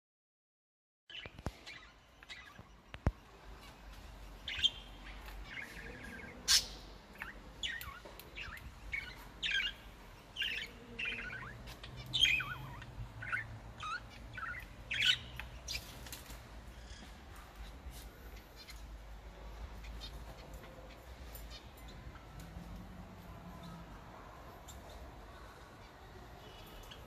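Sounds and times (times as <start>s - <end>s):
small birds chirping: 1.1s - 27.0s.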